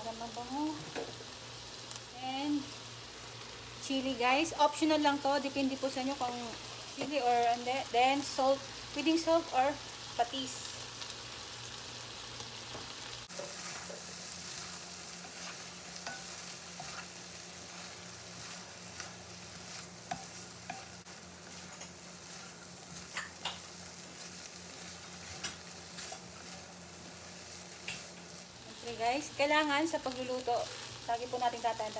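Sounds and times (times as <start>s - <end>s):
meat sizzling in a pan: 0.0s - 31.9s.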